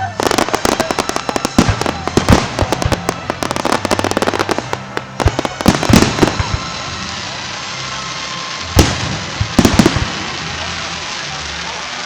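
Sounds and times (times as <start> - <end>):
fireworks crackling and popping: 0.0 - 12.0
heavy fireworks bangs: 0.0 - 12.0.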